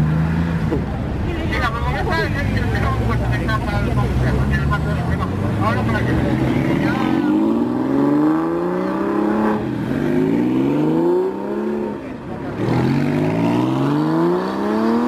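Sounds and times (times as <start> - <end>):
sports car engines accelerating: 0.0 - 15.0.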